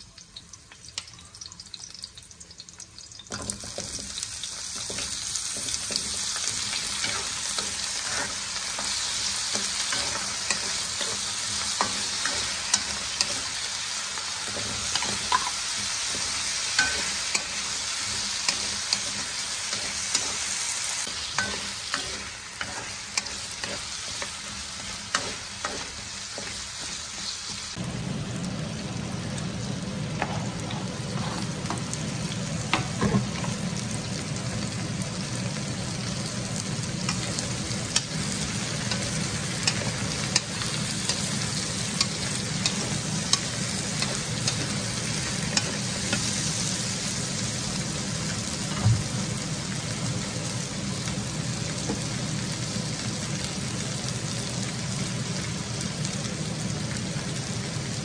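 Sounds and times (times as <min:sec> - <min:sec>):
vegetables sizzling in a wok: 0:00.0 - 0:58.0.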